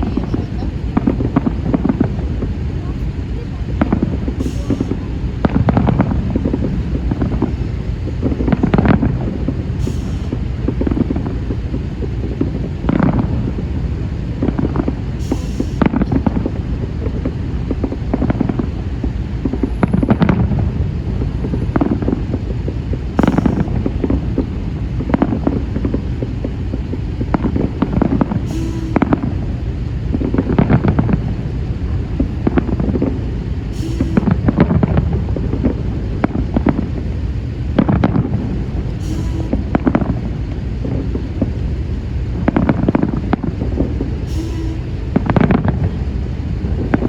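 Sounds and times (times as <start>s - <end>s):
fireworks booms and cracks: 0.0s - 47.0s
steady low rumble: 0.0s - 47.0s.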